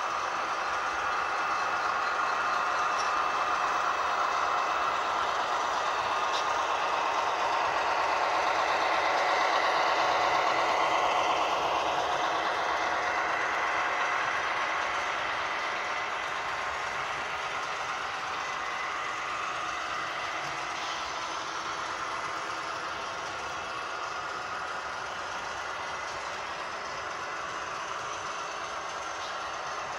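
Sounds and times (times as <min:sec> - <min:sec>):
model train wheels rattling on track: 0:00.0 - 0:29.9.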